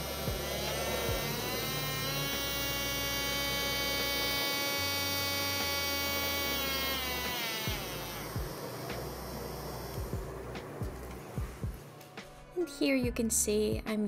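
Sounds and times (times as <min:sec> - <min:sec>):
electric nail drill motor whine: 0:00.0 - 0:11.4.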